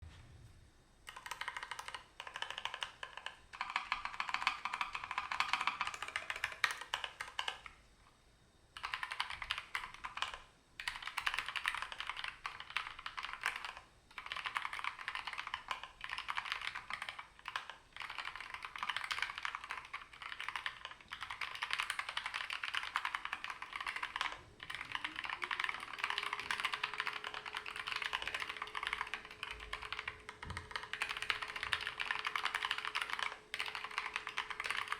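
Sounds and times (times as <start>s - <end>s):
faint steady tone: 3.4s - 34.9s.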